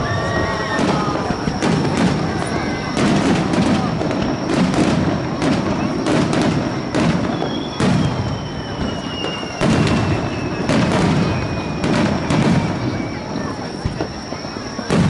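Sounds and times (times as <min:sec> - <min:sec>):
falling whistle: 0:00.0 - 0:15.0
fireworks bursting with bangs: 0:00.0 - 0:15.0.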